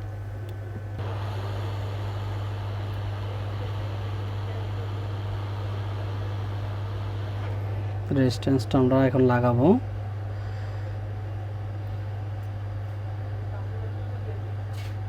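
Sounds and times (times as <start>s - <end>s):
hot air station blowing: 0.0s - 12.4s
low electrical hum: 0.0s - 15.0s.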